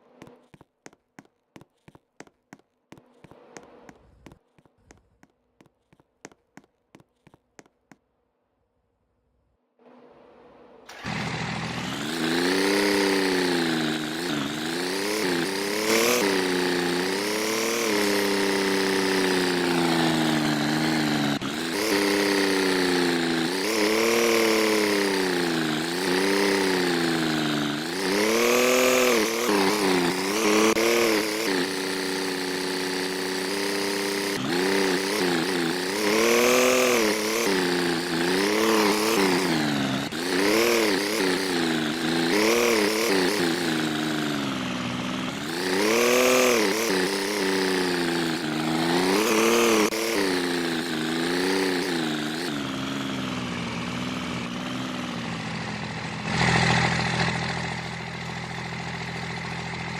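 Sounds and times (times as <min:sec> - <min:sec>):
engine revving: 0:09.8 - 0:59.9.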